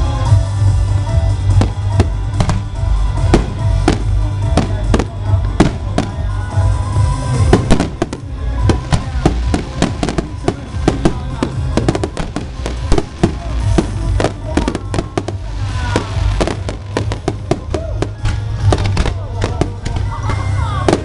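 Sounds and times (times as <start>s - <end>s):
music with heavy bass: 0.0s - 21.0s
fireworks bursting: 1.2s - 21.0s.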